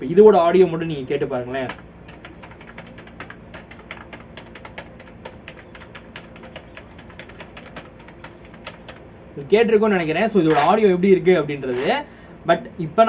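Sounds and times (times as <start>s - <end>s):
rapid keyboard typing: 1.1s - 12.0s.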